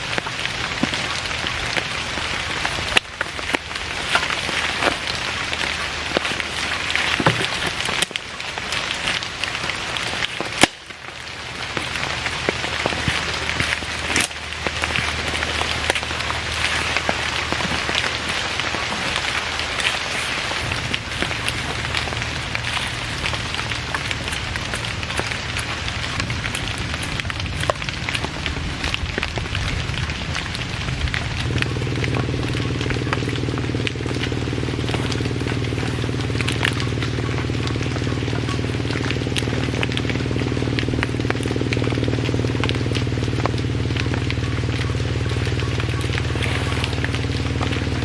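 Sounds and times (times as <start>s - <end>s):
heavy rain falling: 0.0s - 48.0s
raindrops ticking: 0.0s - 48.0s.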